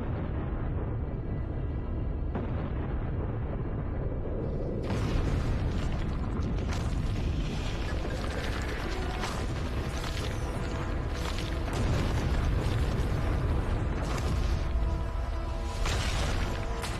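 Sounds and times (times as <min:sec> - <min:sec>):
music: 0:00.0 - 0:05.0, 0:06.7 - 0:16.9
heavy deep rumble: 0:00.0 - 0:16.9.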